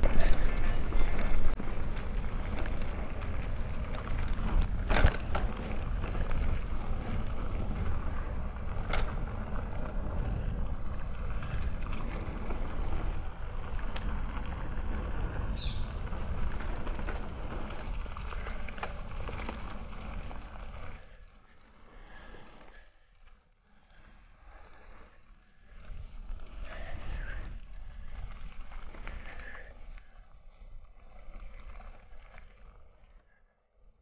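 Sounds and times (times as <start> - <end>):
bike tyres rumbling on trail: 0.0 - 33.2.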